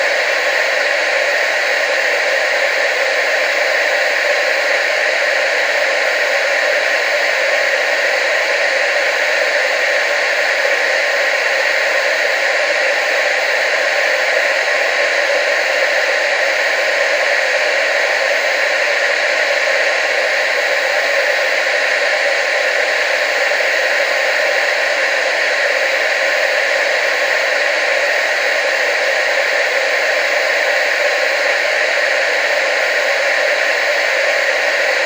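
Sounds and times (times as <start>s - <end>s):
tv static hiss: 0.0s - 35.0s.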